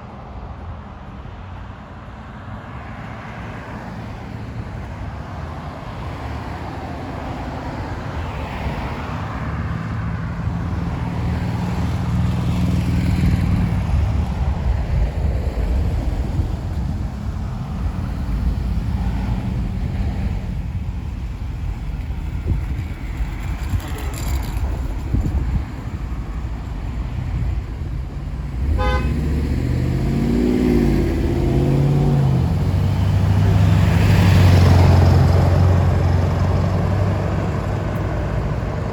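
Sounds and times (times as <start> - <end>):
vehicle engine approaching: 5.2 - 38.9.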